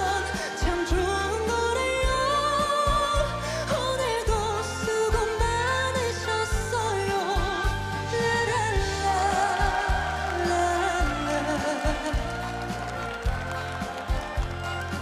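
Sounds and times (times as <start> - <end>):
band accompaniment: 0.0 - 15.0.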